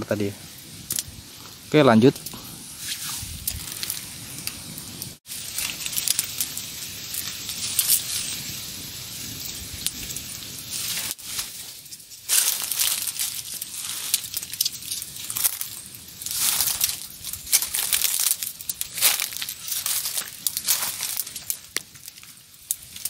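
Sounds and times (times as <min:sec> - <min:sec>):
campfire crackling: 0:00.0 - 0:23.0
twigs and leaves rustling: 0:00.0 - 0:23.0.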